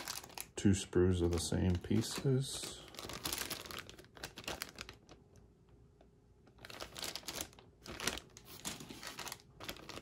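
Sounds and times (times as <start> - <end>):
plastic bags crinkling: 0.0 - 5.4, 6.5 - 10.0.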